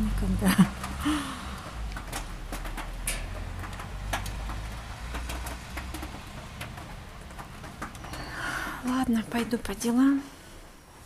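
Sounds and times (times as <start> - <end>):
raindrops ticking on metal: 0.0 - 11.0.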